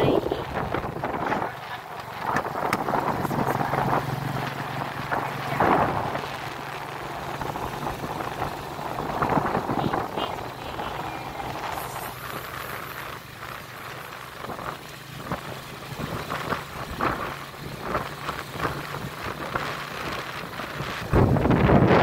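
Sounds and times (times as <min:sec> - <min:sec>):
vehicle engine running: 0:00.0 - 0:22.0
wind buffeting microphone: 0:00.0 - 0:22.0.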